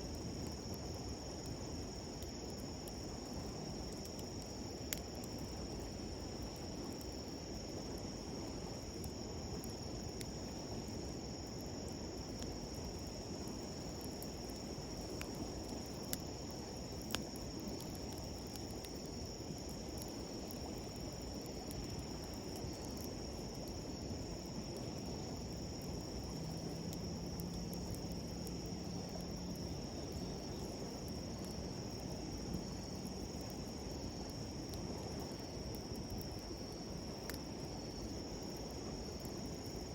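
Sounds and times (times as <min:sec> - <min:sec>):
campfire crackles: 0:00.0 - 0:39.9
insects trilling: 0:00.0 - 0:39.9.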